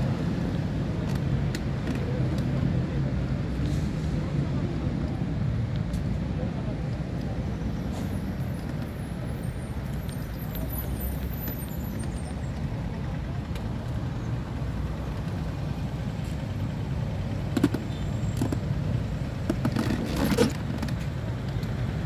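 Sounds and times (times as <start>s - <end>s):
highway traffic rumble: 0.0s - 22.0s.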